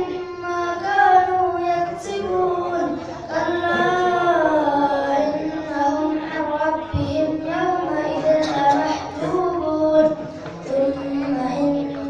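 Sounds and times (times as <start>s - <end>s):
child chanting melodic recitation: 0.0s - 12.0s.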